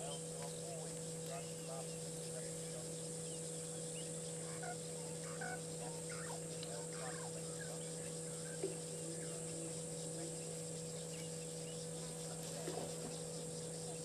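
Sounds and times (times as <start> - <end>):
bird calls: 0.0 - 14.0
steady low hum: 0.0 - 14.0.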